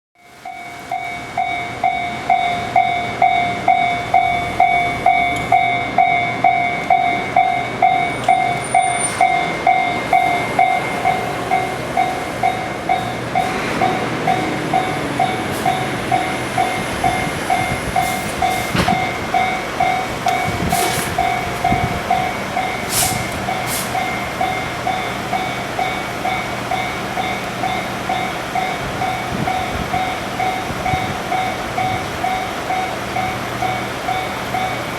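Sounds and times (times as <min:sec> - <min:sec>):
level-crossing warning bell: 0:00.2 - 0:34.9
freight train rumble: 0:00.3 - 0:34.9.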